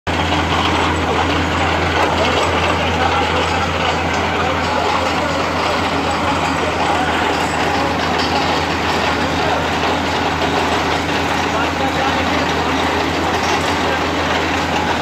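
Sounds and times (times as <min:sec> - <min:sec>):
drilling rig machine hum: 0:00.1 - 0:15.0
noisy rattle: 0:00.1 - 0:15.0.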